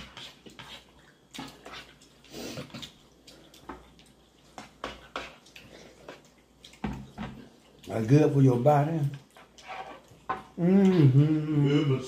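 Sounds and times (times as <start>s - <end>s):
people slurping and chewing: 0.0s - 12.0s.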